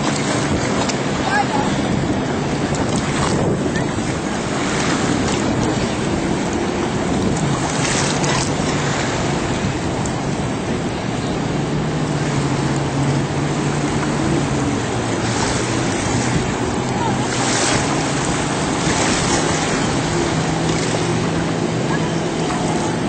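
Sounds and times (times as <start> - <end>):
jet ski engines droning: 0.0 - 23.0
surf washing: 0.0 - 23.0
wind noise on microphone: 0.0 - 23.0.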